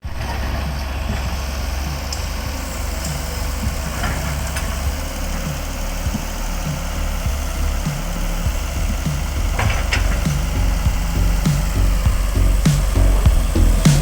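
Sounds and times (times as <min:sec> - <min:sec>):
excavator engine rumbling: 0:00.0 - 0:14.0.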